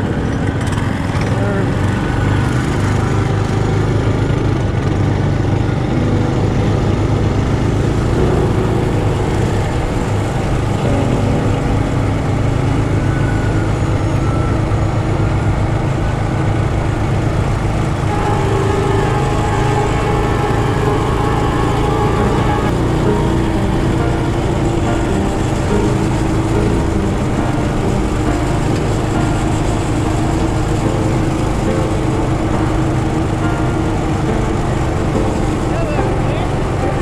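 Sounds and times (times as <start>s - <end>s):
minibike engines running: 0.0s - 37.0s.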